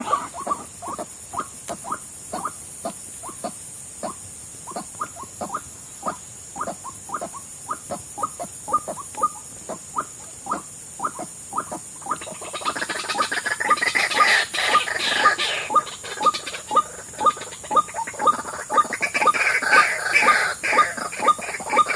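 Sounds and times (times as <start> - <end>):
bird calling with falling calls: 0.0 - 21.9.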